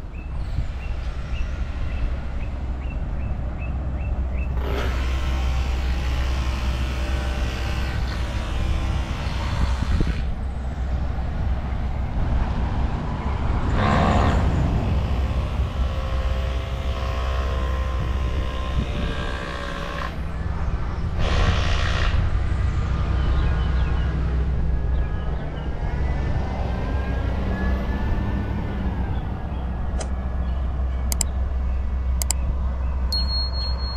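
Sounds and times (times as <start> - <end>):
vehicle engines passing: 0.0 - 33.9.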